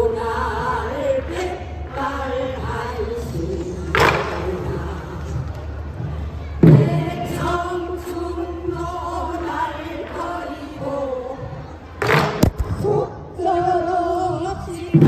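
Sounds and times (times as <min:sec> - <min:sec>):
women singing folk song in unison: 0:00.0 - 0:05.7, 0:06.6 - 0:11.9, 0:12.7 - 0:15.0.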